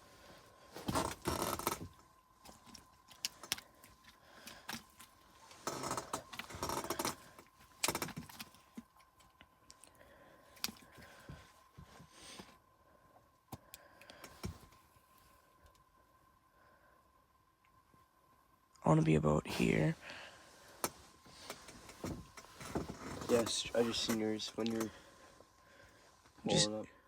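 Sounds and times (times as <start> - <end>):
faint steady tone: 0.0 - 27.0.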